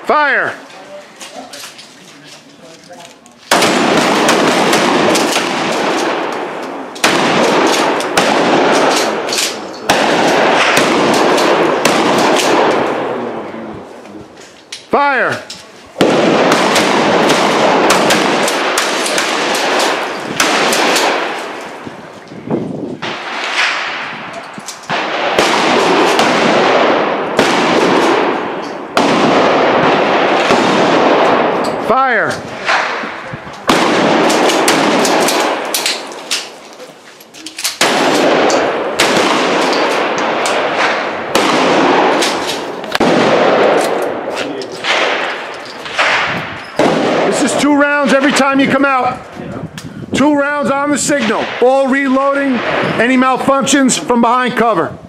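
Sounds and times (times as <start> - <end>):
shotgun blasts with echo: 3.5 - 13.7, 16.0 - 22.0, 23.0 - 36.6, 37.7 - 53.8.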